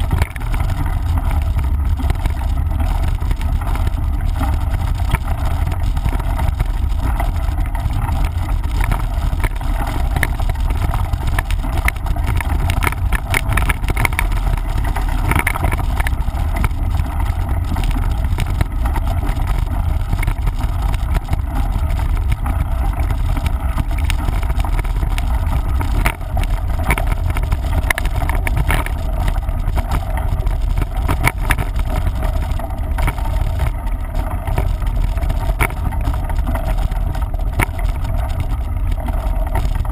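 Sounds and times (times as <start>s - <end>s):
bike clicking and rattling: 0.0s - 39.9s
wind rumble on microphone: 0.0s - 39.9s.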